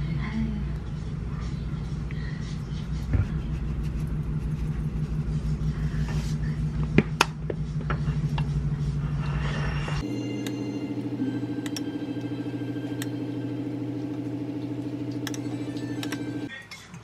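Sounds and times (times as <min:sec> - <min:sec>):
low machine hum: 0:00.1 - 0:16.5.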